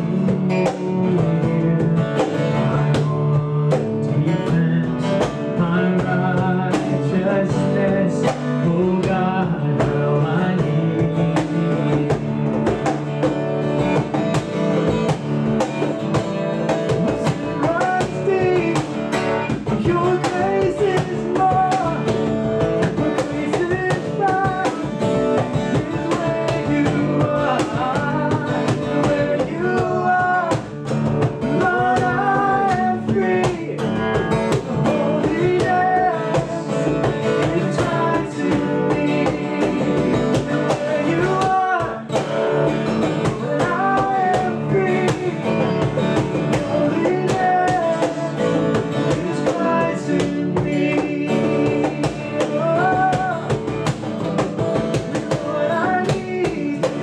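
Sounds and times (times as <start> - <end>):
men singing together: 0.0 - 13.0, 16.7 - 53.8, 55.0 - 57.0
cajon beat: 0.0 - 57.0
strummed acoustic guitar: 0.0 - 57.0.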